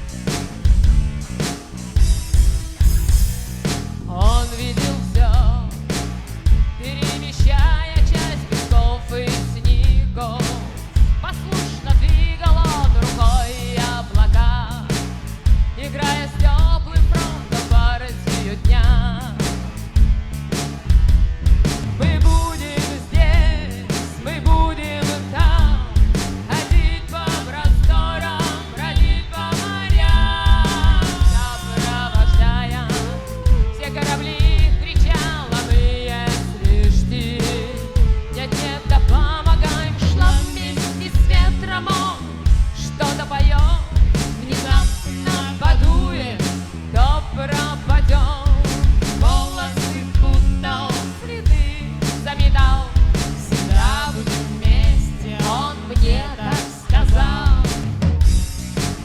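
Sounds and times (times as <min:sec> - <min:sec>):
drums and bass beat: 0:00.0 - 0:59.0
rock band playing: 0:00.0 - 0:59.0.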